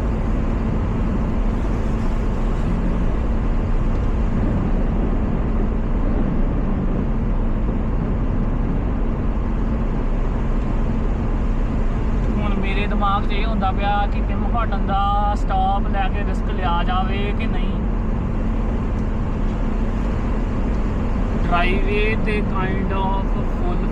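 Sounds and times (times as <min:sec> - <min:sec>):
car engine and tyre noise: 0:00.0 - 0:23.9
low hum: 0:00.0 - 0:23.9.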